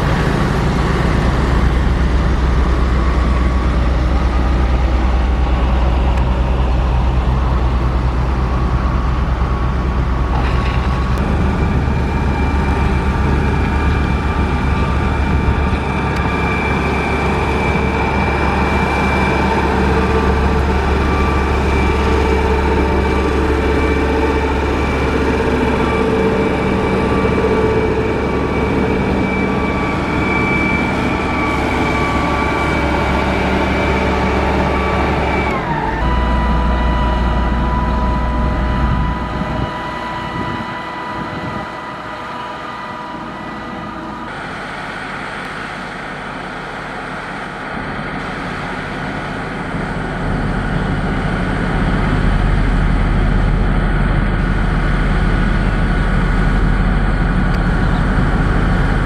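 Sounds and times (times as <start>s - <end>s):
diesel engine running: 0.0s - 59.0s
engine whine: 0.0s - 59.0s.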